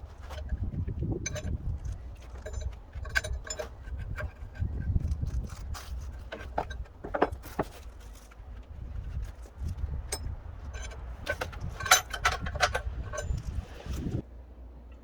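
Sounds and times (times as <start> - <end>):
metallic clicks and scrapes: 0.0 - 14.2.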